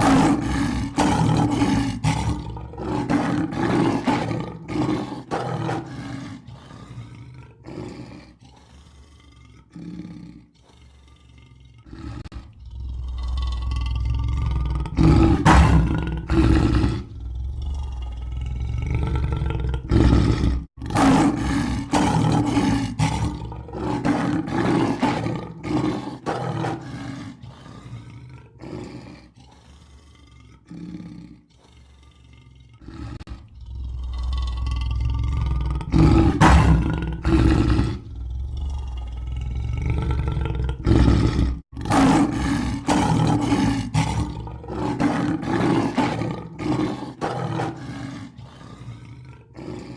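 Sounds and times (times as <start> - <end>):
lion roaring: 0.0 - 49.9.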